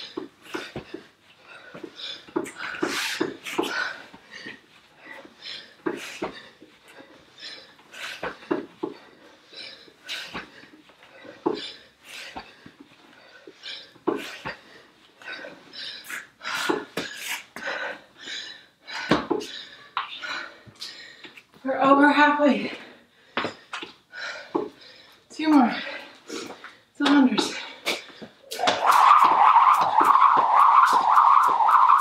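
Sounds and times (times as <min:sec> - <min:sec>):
woman breathing hard: 0:00.0 - 0:21.5, 0:22.5 - 0:28.5.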